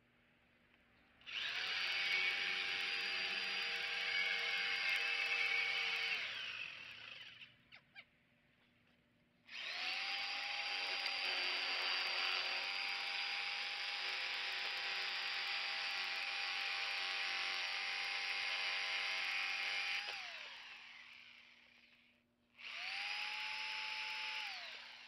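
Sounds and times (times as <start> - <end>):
electric jigsaw cutting pipe: 1.3 - 7.5, 9.5 - 22.0, 22.6 - 25.0.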